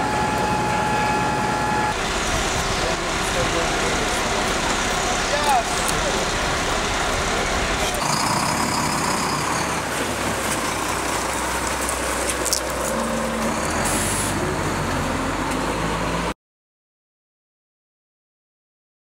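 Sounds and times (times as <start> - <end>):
tow truck engine idling: 0.0 - 16.3
outdoor street noise: 0.0 - 16.4.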